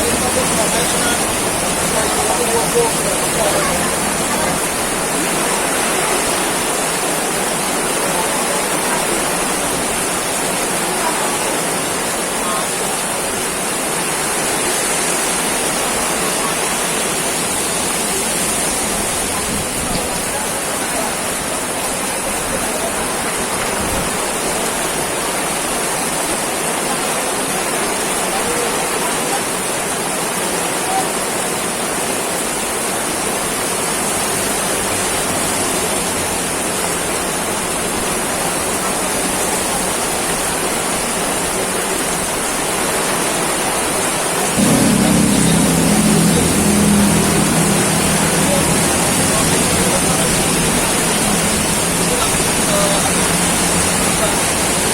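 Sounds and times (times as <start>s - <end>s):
heavy rain hiss: 0.0s - 54.9s.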